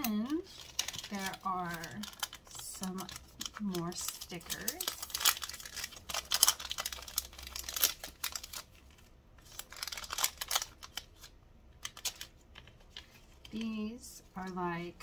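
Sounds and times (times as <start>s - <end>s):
plastic packet crinkling: 0.0s - 13.6s.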